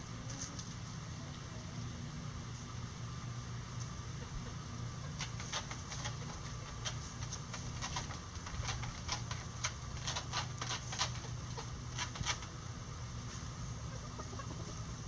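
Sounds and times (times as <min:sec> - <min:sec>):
chickens scratching in dry leaves: 0:00.0 - 0:01.8, 0:03.7 - 0:15.0.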